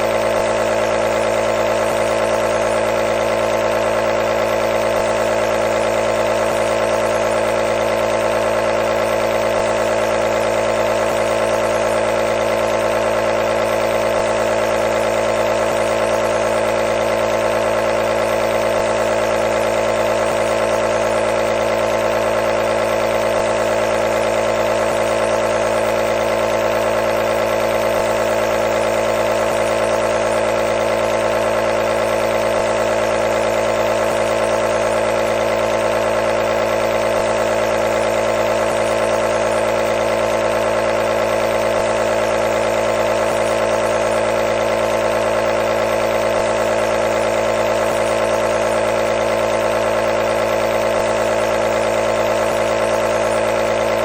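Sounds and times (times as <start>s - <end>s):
nebulizer motor hum: 0.0s - 54.0s.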